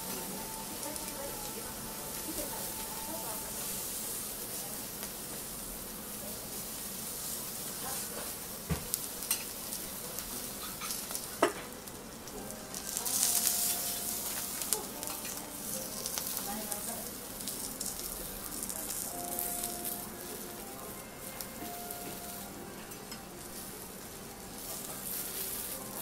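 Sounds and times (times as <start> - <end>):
food sizzling on a griddle: 0.0 - 26.0.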